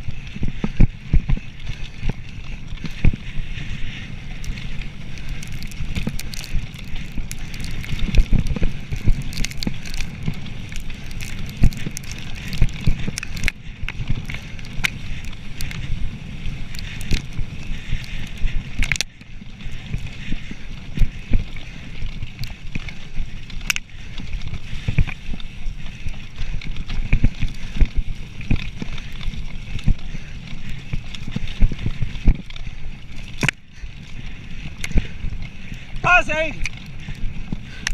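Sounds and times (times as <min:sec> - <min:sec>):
bike rattling and knocking: 0:00.0 - 0:36.0
bike tyres rushing over dirt: 0:00.0 - 0:37.9
wind rumbling on microphone: 0:00.0 - 0:37.9.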